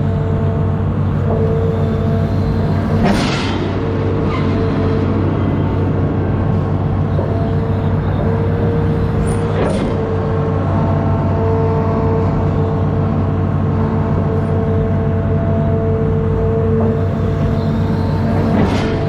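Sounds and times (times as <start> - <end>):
diesel engine running under load: 0.0 - 19.0
steady whine: 0.0 - 19.0.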